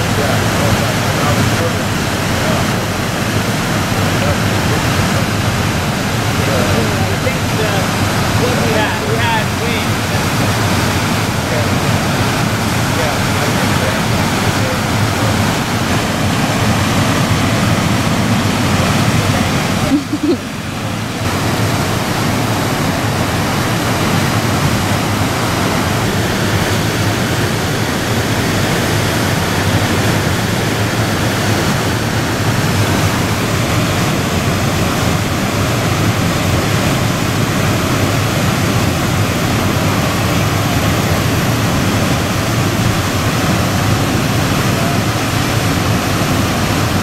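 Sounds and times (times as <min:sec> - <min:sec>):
rapids rushing: 0:00.0 - 0:47.0.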